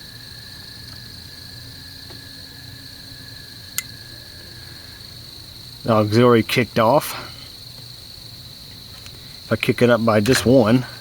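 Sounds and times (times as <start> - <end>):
crickets trilling: 0.0 - 11.0
low steady hum: 0.0 - 11.0.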